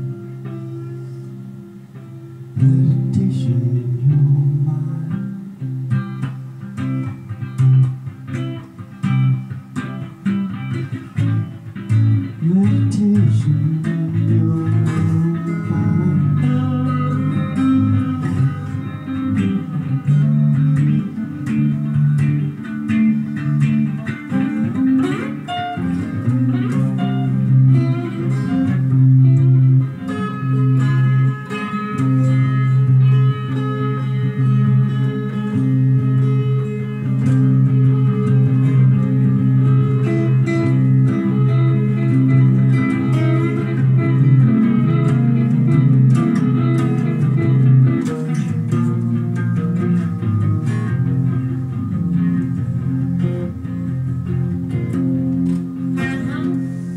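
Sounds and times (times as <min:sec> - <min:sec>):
electric guitar playing: 0:00.0 - 0:56.9.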